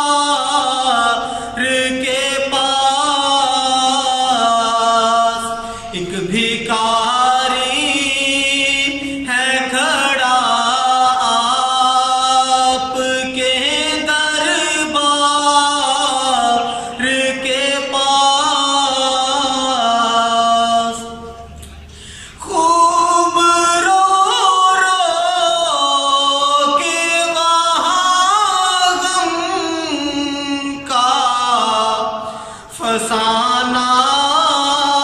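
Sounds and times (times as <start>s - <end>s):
man chanting unaccompanied: 0.0s - 21.5s, 22.4s - 35.0s.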